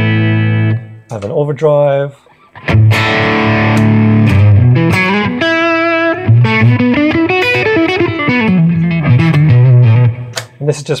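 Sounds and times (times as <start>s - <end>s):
overdriven electric guitar chords: 0.0s - 1.1s, 2.4s - 10.6s.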